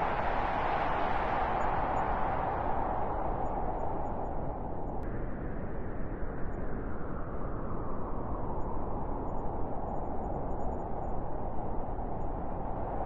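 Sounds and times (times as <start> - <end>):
wind blowing steadily: 0.0 - 13.0.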